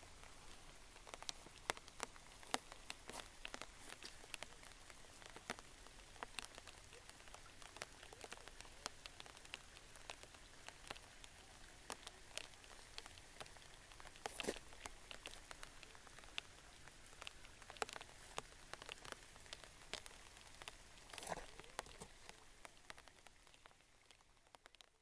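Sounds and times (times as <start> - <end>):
light rain on water: 0.0 - 25.0.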